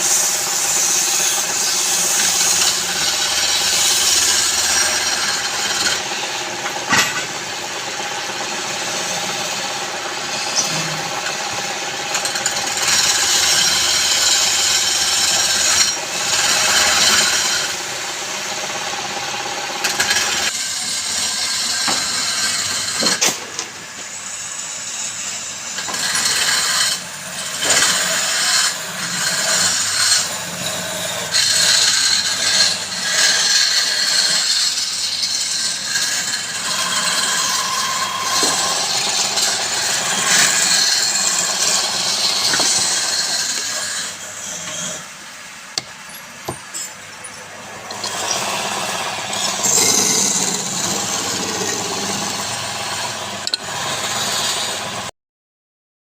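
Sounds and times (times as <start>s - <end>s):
lathe tool cutting wood: 0.0s - 23.4s, 24.1s - 55.1s.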